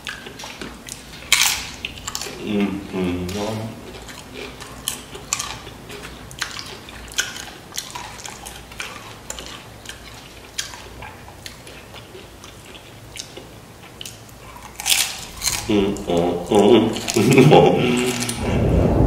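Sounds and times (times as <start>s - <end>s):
crunchy chips chewing: 0.0s - 18.5s.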